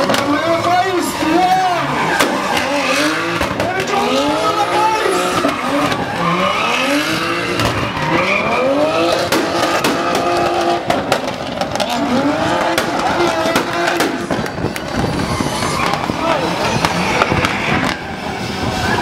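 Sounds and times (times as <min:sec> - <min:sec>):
car engine revving: 0:00.0 - 0:19.0
tyres squealing: 0:00.0 - 0:19.0.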